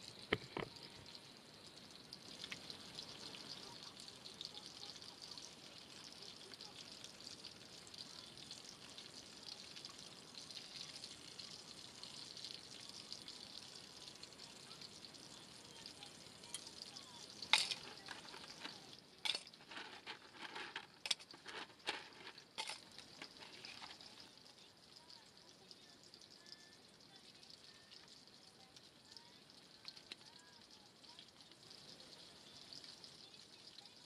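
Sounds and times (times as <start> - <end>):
food sizzling in skillet: 0.0 - 28.0.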